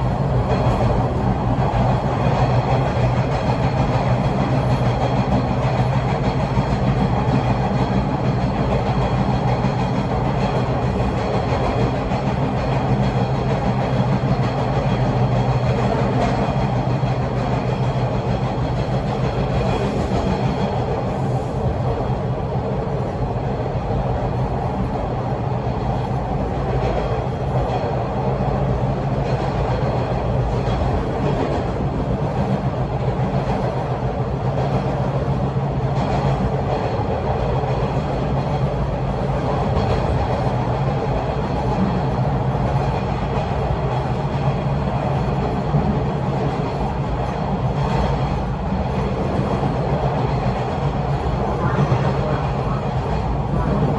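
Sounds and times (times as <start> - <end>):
subway train rumbling: 0.0 - 53.9.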